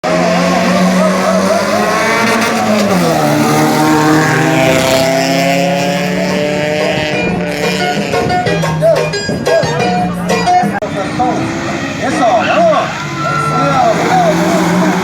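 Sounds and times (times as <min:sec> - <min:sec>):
car engine revving high: 0:00.0 - 0:08.4, 0:10.8 - 0:15.0.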